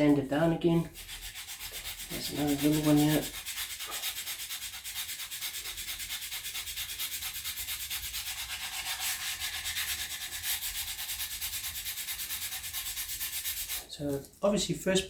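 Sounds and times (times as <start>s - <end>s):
sandpaper rubbing on wood: 0.8s - 13.9s.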